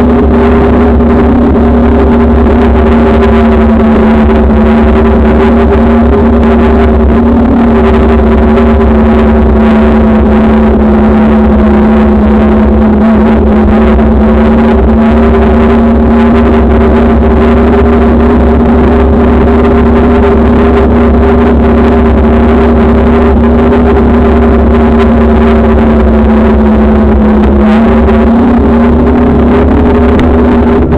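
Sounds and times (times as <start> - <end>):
wind and ride vibration drone: 0.0 - 30.9.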